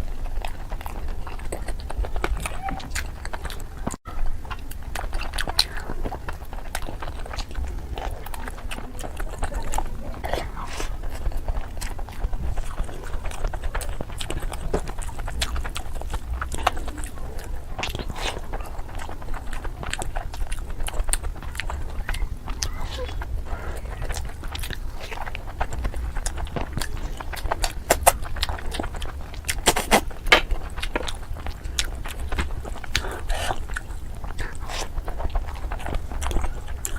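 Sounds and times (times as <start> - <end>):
person chewing with wet smacks: 0.0 - 36.9
steady low hum: 0.0 - 36.9.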